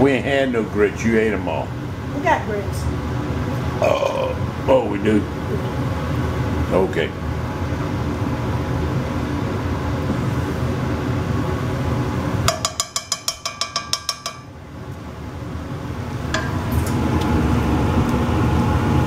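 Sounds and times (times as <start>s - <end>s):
background hum: 0.0s - 19.0s.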